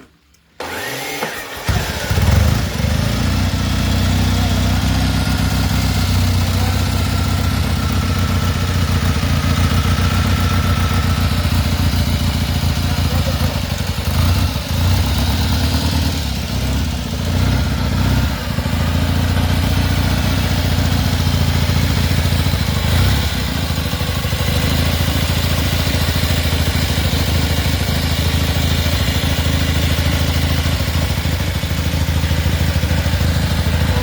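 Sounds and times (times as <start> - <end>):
motorcycle engine running: 1.6 - 34.0.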